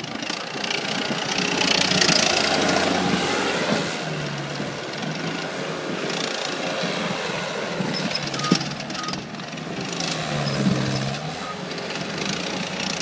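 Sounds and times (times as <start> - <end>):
loader diesel engine under load: 0.0 - 13.0.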